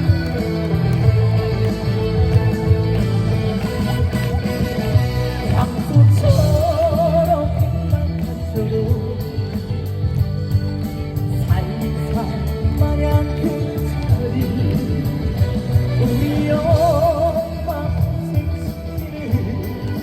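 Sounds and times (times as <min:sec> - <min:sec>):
trot music over sound system: 0:00.0 - 0:20.0.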